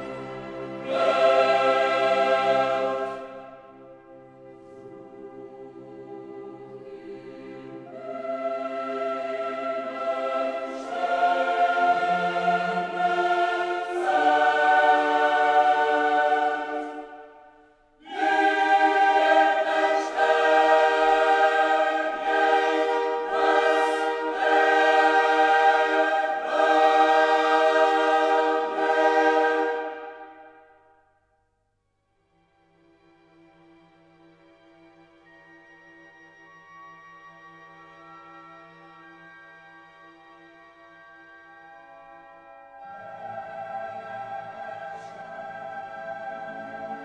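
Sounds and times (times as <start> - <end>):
choir singing sustained chords: 0.0 - 31.4, 32.5 - 47.0.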